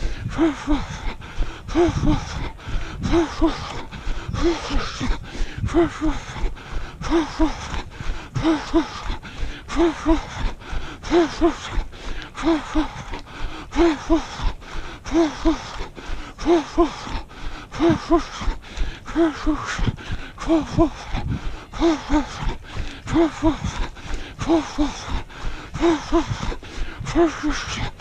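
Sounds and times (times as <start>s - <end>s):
runner's heavy rhythmic breathing: 0.0s - 28.0s.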